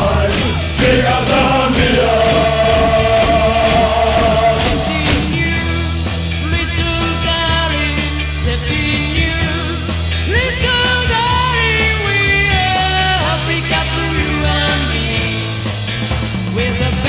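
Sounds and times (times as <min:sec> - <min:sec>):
rock song: 0:00.0 - 0:17.0.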